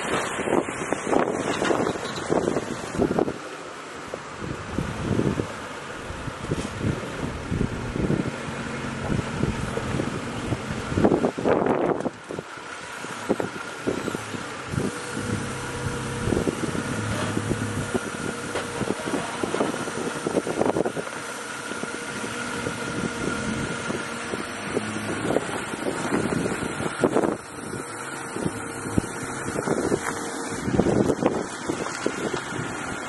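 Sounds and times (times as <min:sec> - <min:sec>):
wind buffeting microphone: 0:00.0 - 0:03.5, 0:04.1 - 0:33.0
jeep engine running at low speed: 0:00.0 - 0:33.0.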